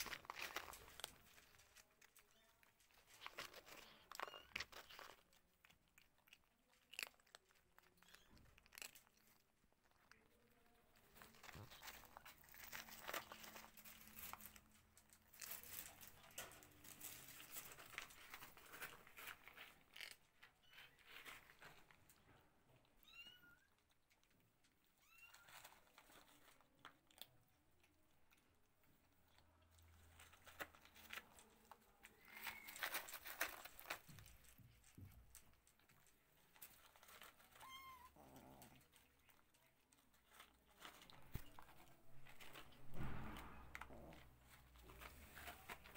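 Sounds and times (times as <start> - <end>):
kitten crunching dry kibble: 0.0 - 45.9.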